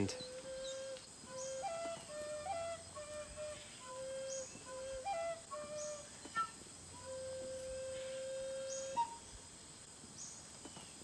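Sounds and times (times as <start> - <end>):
high-pitched insect drone: 0.0 - 9.8
soft flute melody: 0.1 - 9.4.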